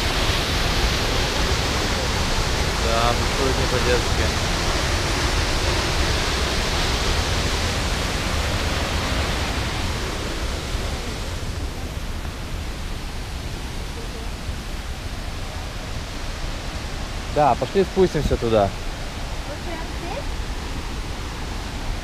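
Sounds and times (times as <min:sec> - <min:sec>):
creek water and waterfall rushing: 0:00.0 - 0:22.0.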